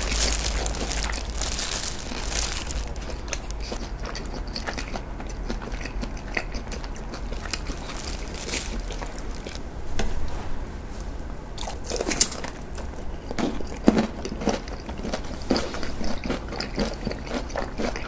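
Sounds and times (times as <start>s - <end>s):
crunchy chewing of rice ball: 0.0s - 9.7s, 11.6s - 18.0s.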